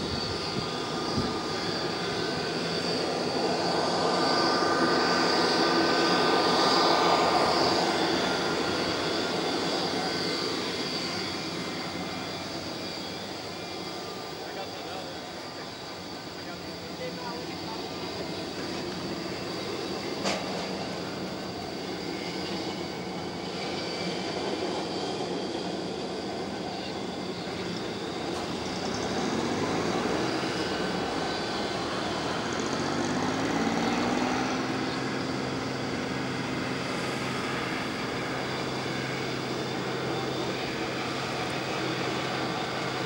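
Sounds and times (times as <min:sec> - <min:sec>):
jet engines whining: 0:00.0 - 0:43.0.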